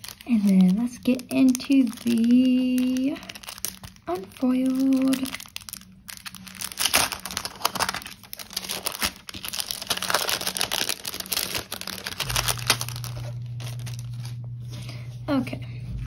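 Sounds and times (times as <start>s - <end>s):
cellophane crinkling: 0.0s - 15.1s
low steady hum: 0.0s - 16.0s.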